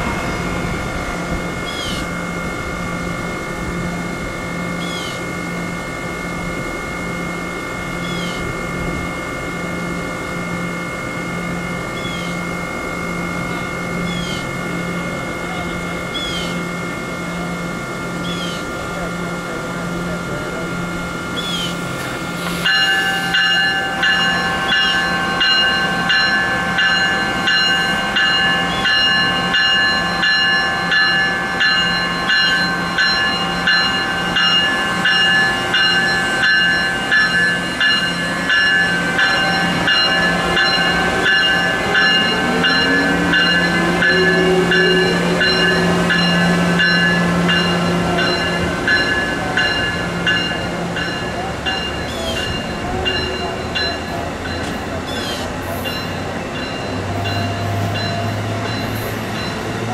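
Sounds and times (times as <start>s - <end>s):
train whine rising in pitch: 0.0s - 59.9s.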